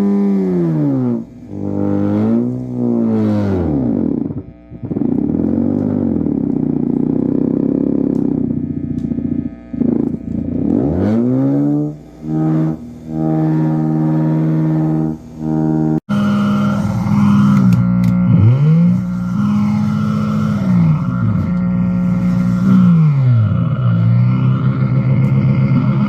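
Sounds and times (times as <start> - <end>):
buzzy synth drone swooping: 0.0 - 26.0.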